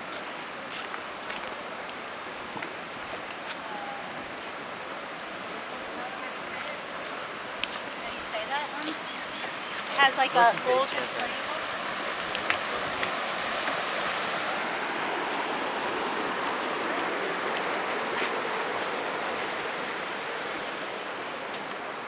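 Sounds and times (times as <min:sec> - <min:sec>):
water splashing down waterfall: 0:00.0 - 0:22.0.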